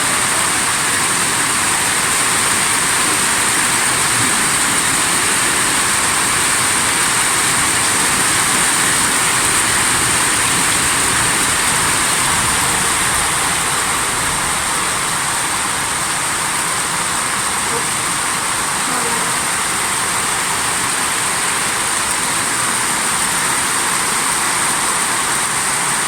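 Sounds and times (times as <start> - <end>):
torrential rushing water: 0.0 - 26.0.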